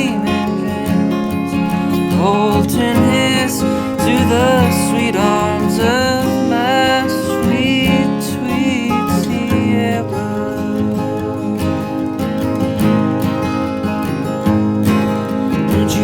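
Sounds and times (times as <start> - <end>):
country song with acoustic guitar: 0.0 - 16.0.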